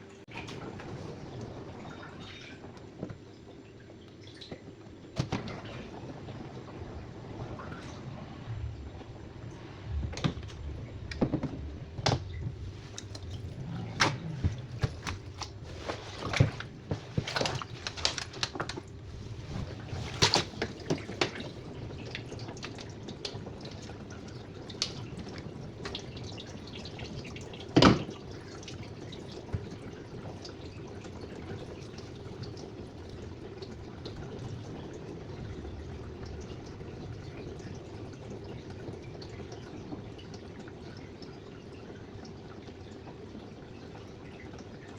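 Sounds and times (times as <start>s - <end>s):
water dripping and splashing: 0.2s - 44.9s.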